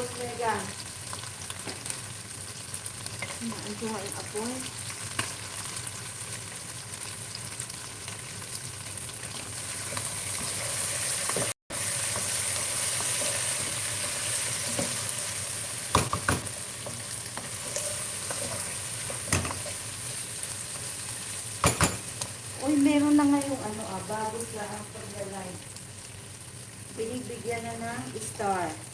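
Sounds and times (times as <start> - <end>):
chicken wings sizzling in a pan: 0.0 - 28.9.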